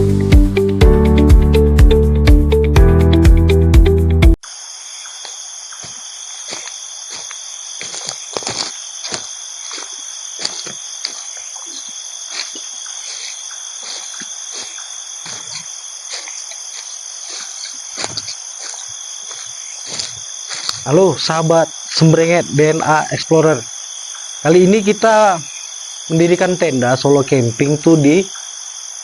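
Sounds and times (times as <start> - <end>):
forest insects droning: 4.4 - 29.0.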